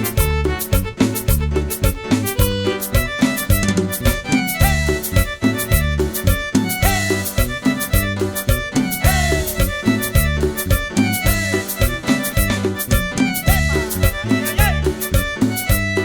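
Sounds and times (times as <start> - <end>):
cumbia band playing: 0.0 - 16.0.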